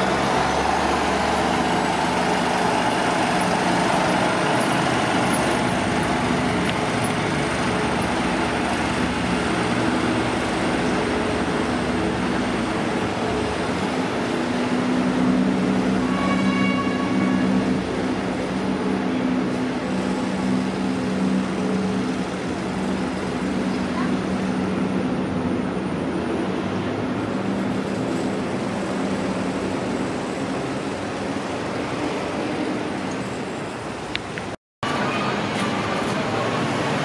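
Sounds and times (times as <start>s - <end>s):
train engine drone: 0.0s - 37.0s
train rumbling: 0.0s - 37.0s.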